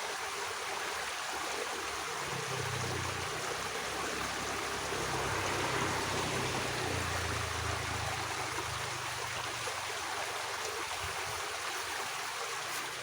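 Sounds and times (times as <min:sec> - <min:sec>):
water flowing in ditch: 0:00.0 - 0:13.0.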